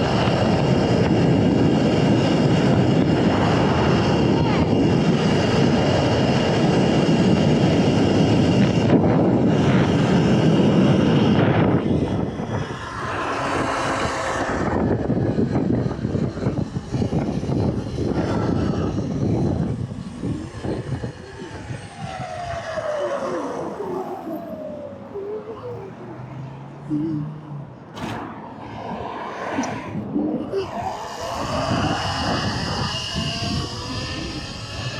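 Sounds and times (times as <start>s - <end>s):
falling motor whine: 0.0s - 26.3s, 28.0s - 34.9s
wind rushing over microphone: 0.0s - 26.9s, 27.5s - 34.9s
tyre and road noise: 0.0s - 34.9s.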